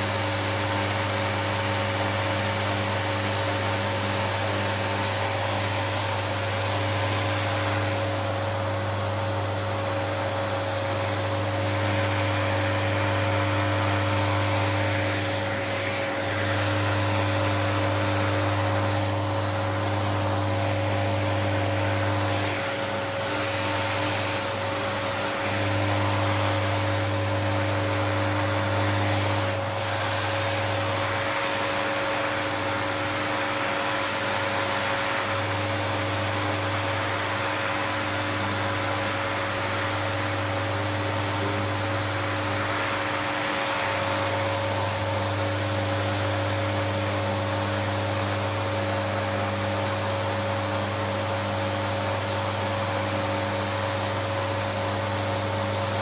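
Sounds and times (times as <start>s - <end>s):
small electric motor humming: 0.0s - 56.0s.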